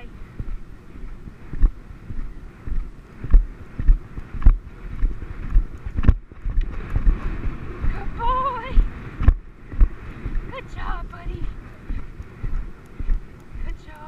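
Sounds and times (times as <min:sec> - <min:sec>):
horse hoofbeats on grass: 0:00.0 - 0:14.0
wind noise on microphone: 0:00.0 - 0:14.0.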